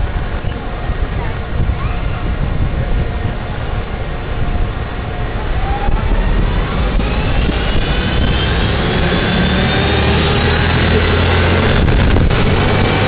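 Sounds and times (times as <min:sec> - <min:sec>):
faint rising whine: 0:00.0 - 0:13.0
vehicle engines droning: 0:00.0 - 0:13.0
wind rumble: 0:00.0 - 0:13.0.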